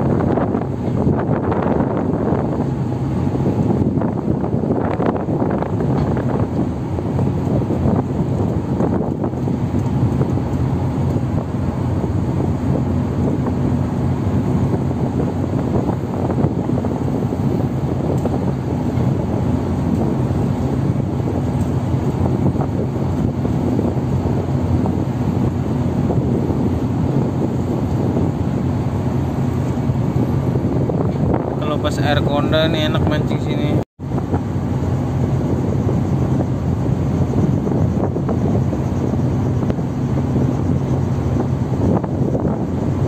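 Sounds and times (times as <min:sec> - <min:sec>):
ship diesel engines droning: 0:00.0 - 0:43.0
wind on microphone: 0:00.0 - 0:43.0.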